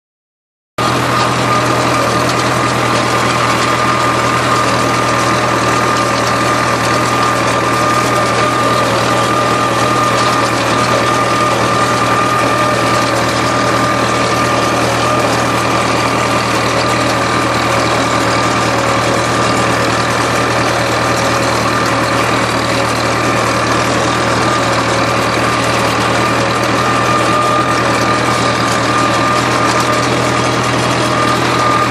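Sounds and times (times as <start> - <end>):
tractor engine running: 0.8 - 31.9.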